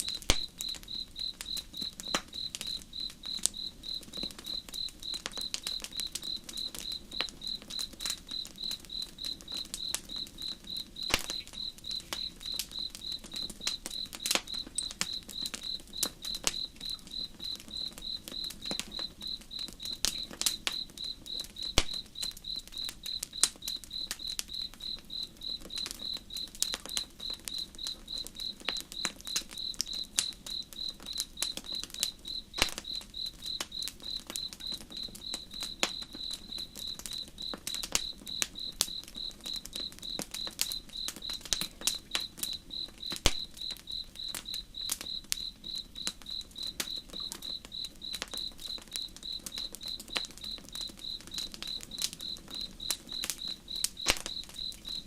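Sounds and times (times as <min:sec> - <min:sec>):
campfire crackling and popping: 0:00.0 - 0:55.0
cricket chirping: 0:00.0 - 0:55.0.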